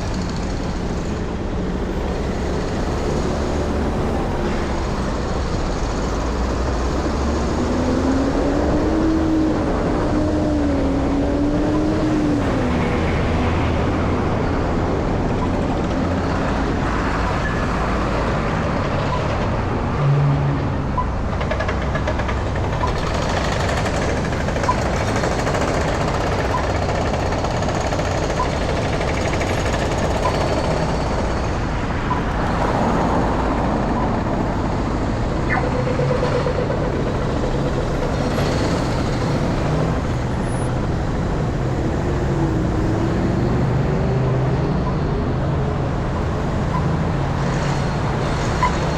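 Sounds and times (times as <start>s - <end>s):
street traffic: 0.0s - 48.9s.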